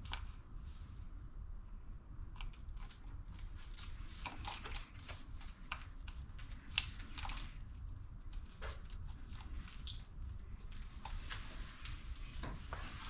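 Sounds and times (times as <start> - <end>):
handling clicks and crinkles: 2.3 - 13.0.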